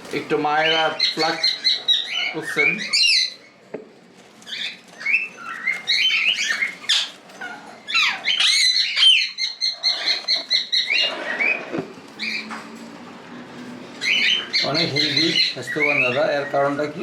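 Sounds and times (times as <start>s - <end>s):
cockatiels chirping and whistling: 0.6s - 3.5s, 4.4s - 12.6s, 14.0s - 17.0s.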